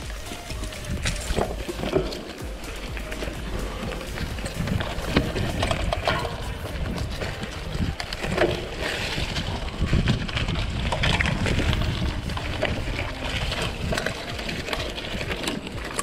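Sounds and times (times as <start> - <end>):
bike clicks and rattles: 0.0 - 16.0
wind buffeting microphone: 0.0 - 16.0.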